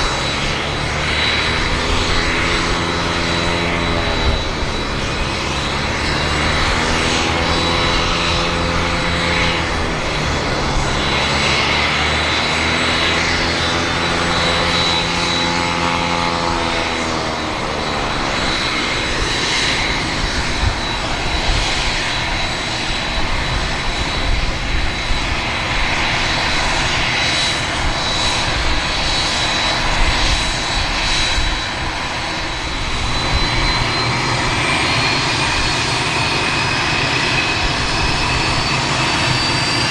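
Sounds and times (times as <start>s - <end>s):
jet engines rumbling and whining: 0.0s - 39.9s.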